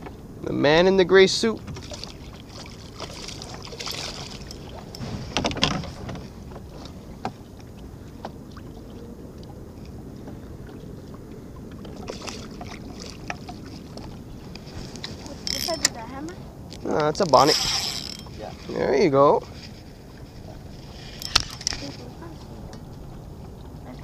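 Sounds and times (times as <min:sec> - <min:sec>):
water lapping against boat hull: 0:00.0 - 0:24.0.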